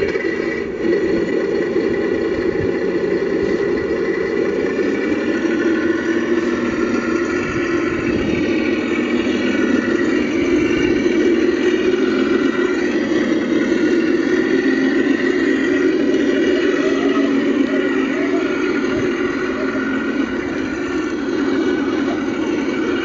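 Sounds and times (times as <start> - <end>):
simulated truck diesel engine: 0.0 - 23.0.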